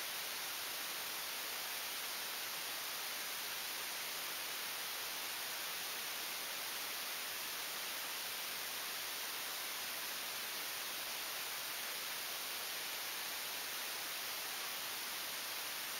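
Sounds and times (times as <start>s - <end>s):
recording noise hiss: 0.0s - 15.9s.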